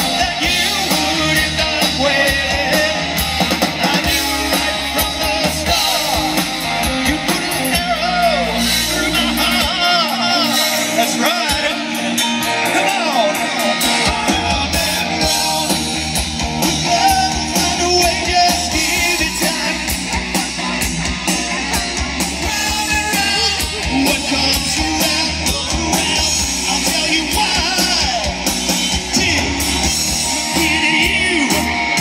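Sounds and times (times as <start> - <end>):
electric guitar: 0.0 - 32.0
hard rock band playing: 0.0 - 32.0
lead singer: 0.0 - 32.0
steady drum beat: 0.0 - 32.0.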